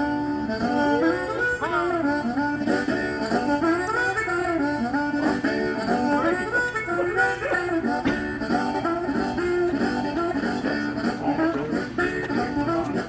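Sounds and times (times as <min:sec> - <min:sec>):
harmonica playing blues: 0:00.0 - 0:13.0.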